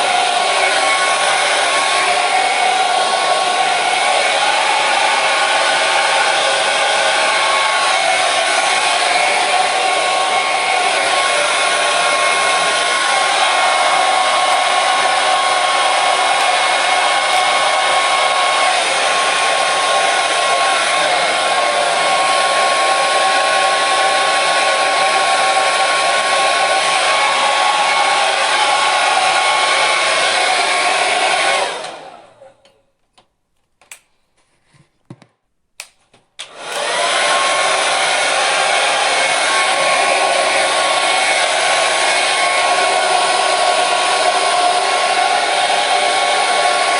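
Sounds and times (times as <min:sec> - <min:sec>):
hair dryer running: 0:00.0 - 0:32.5, 0:36.4 - 0:46.9.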